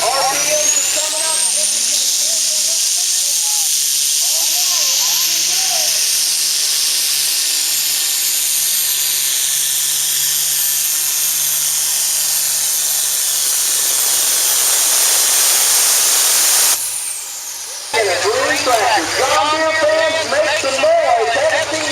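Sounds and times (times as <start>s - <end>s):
diesel tractor running flat out: 0.0s - 21.9s
turbocharger hiss and scream: 0.0s - 21.9s.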